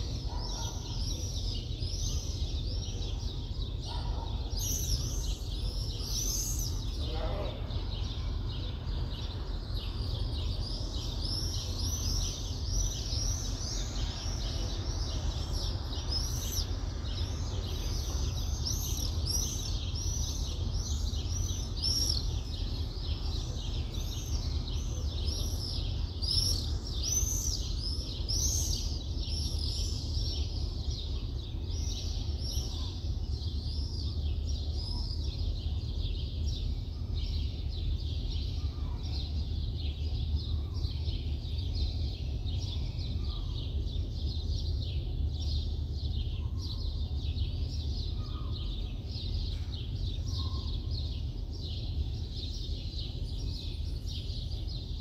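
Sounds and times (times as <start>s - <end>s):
birds chirping: 0.0s - 55.0s
low rumble of city noise: 0.0s - 55.0s.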